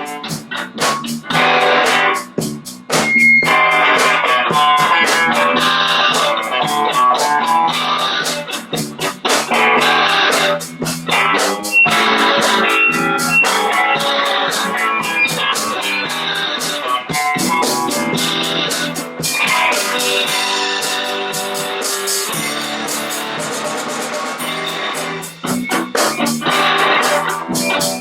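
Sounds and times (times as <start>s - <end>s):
drums keeping a steady beat: 0.0s - 28.0s
electric guitar: 0.0s - 28.0s
live band playing: 0.0s - 28.0s.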